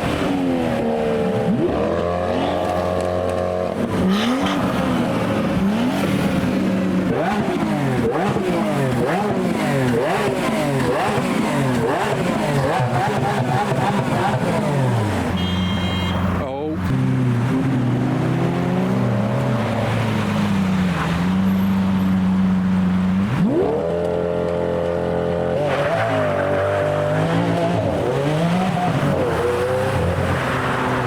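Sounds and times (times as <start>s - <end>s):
car engine revving: 0.0s - 15.4s, 16.3s - 31.0s.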